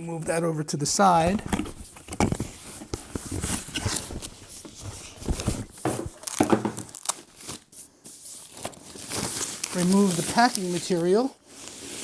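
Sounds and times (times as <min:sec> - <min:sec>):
packing material rustling: 0:01.2 - 0:12.0.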